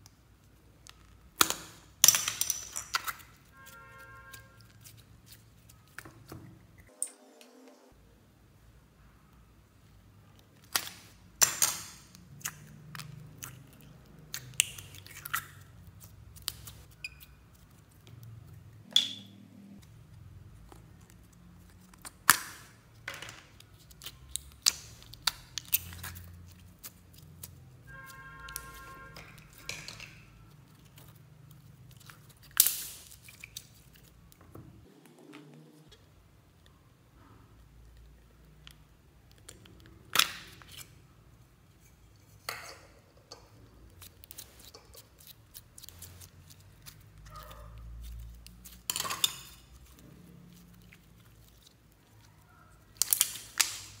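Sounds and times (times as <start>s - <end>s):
slime squishing: 0.0s - 6.9s, 10.3s - 18.8s, 19.8s - 41.9s, 43.4s - 54.0s.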